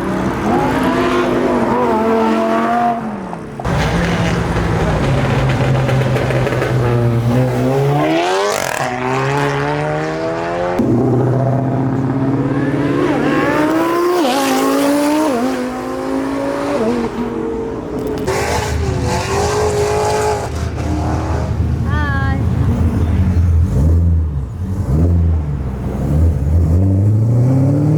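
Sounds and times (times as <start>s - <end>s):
car engines accelerating hard: 0.0s - 27.9s.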